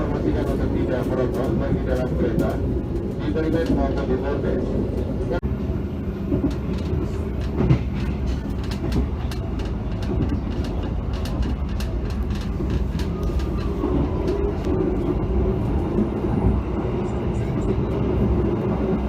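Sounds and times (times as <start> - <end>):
train clicks and rattles: 0.0 - 5.4, 6.1 - 19.0
train rumble inside carriage: 0.0 - 19.0.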